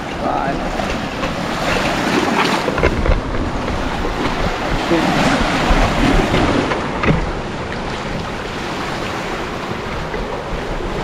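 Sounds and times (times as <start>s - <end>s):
waves splashing against rocks: 0.0s - 11.0s
wind buffeting microphone: 0.0s - 11.0s.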